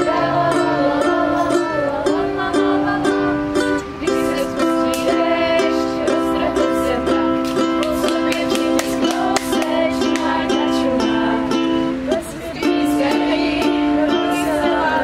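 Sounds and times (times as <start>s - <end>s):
ukulele strumming: 0.0s - 15.0s
young women singing together: 0.0s - 15.0s.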